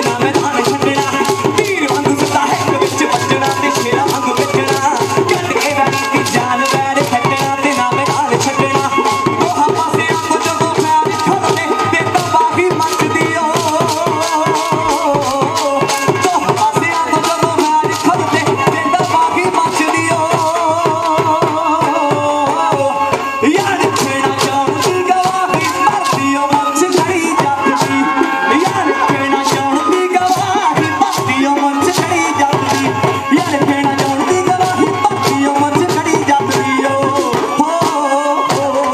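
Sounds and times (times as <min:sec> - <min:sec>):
fast steady drumming: 0:00.0 - 0:38.9.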